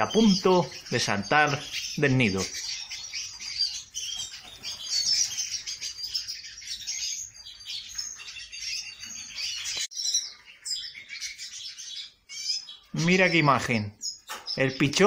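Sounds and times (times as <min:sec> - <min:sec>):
finches chirping and twittering: 0:00.0 - 0:15.0.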